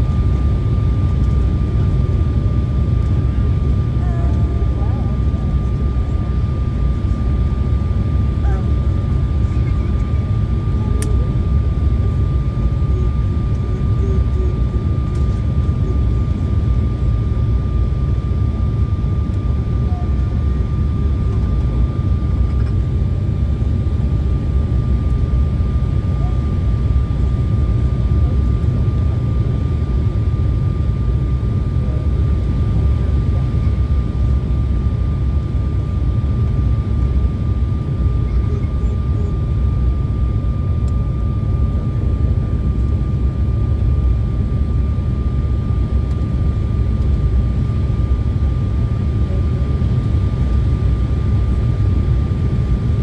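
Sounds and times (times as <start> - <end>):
jet engine and airflow rumble: 0.0 - 53.0.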